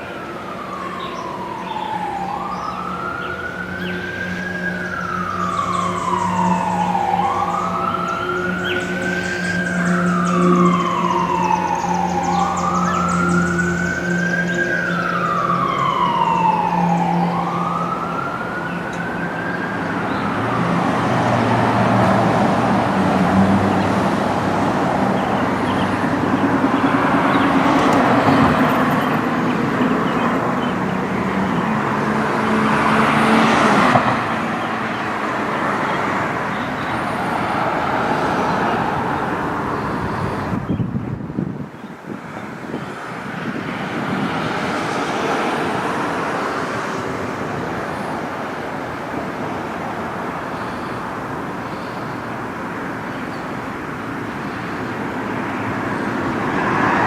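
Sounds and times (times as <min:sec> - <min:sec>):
broad rushing roar: 0:00.0 - 0:51.6, 0:52.2 - 0:57.0
wailing siren: 0:00.0 - 0:57.0.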